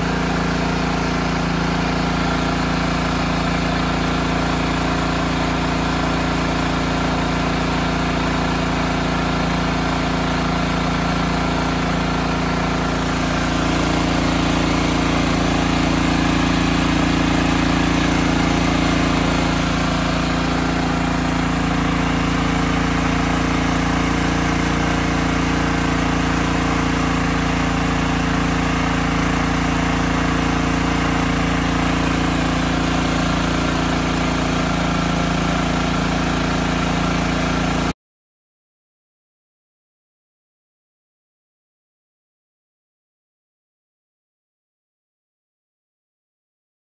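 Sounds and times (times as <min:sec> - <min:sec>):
generator engine running: 0:00.0 - 0:38.0.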